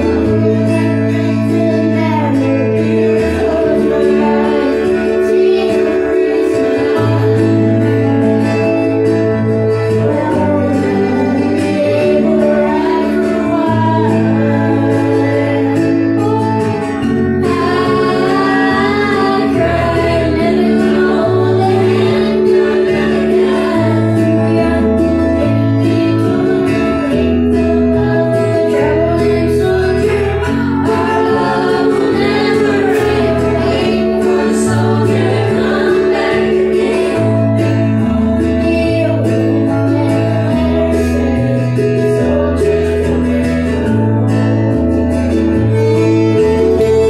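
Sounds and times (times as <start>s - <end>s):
country ballad backing track: 0.0s - 47.0s
woman singing into microphones: 0.0s - 47.0s.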